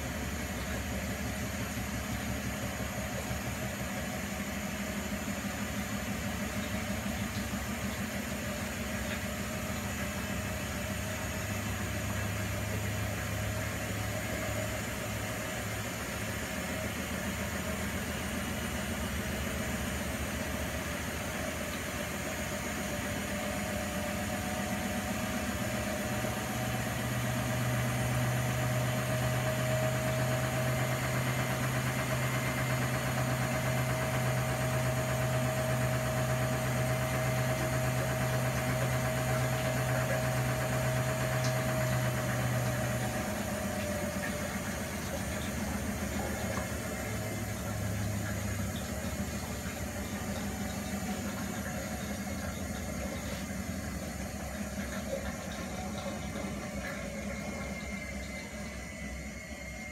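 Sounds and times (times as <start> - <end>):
constant machine noise: 0.0 - 59.9
washing machine motor hum and whine: 0.0 - 59.9.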